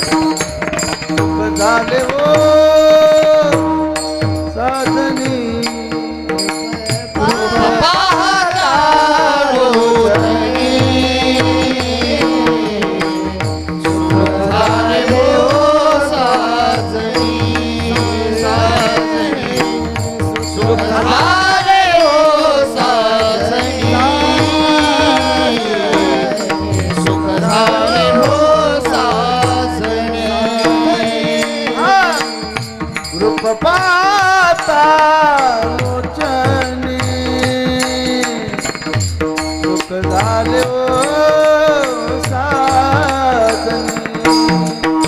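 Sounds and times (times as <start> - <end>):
hand drum beat: 0.0 - 45.0
man singing wordless melody: 1.2 - 45.0.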